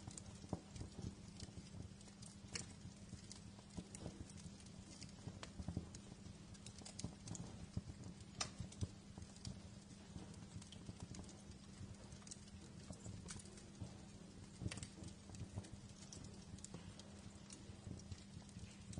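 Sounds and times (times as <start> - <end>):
wood fire crackling: 0.0 - 18.9.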